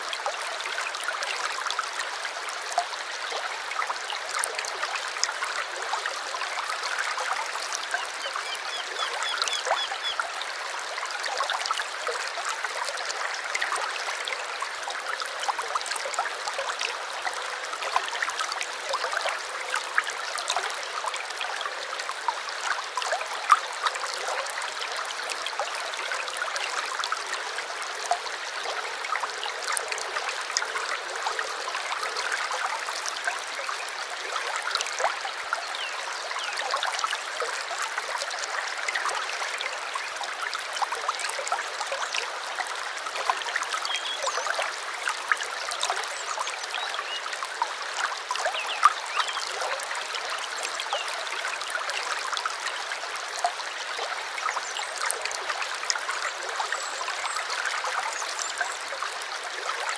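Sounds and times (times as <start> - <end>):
small stream trickling: 0.0 - 59.9.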